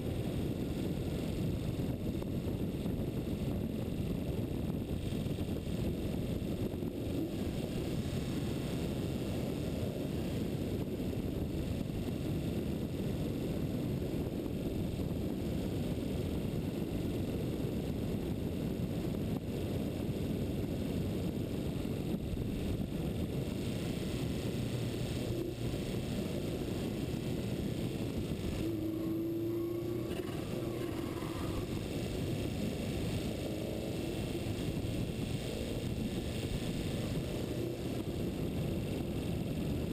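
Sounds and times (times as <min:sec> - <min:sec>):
faint whine: 0:00.0 - 0:39.9
wind buffeting microphone: 0:00.0 - 0:39.9.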